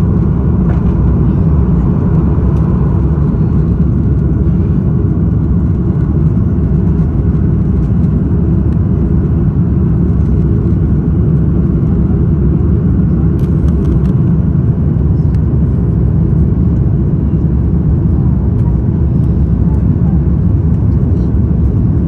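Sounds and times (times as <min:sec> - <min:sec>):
jet engines at climb power: 0:00.0 - 0:22.0.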